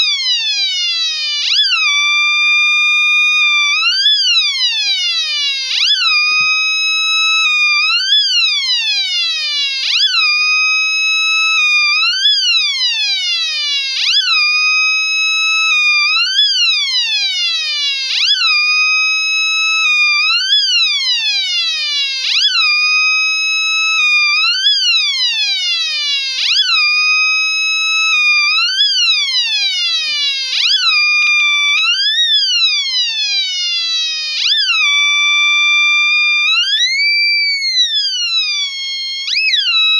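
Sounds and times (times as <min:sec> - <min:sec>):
buzzy electronic siren: 0:00.0 - 0:39.9.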